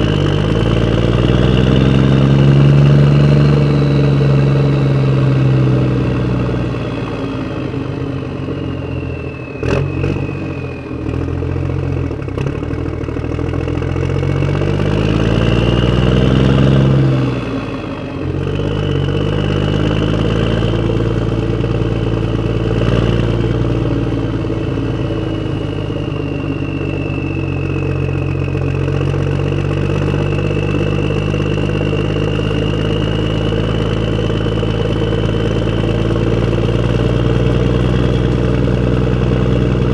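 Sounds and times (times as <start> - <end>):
high whine: 0.0 - 12.4, 13.5 - 39.9
vehicle engine running: 0.0 - 39.9.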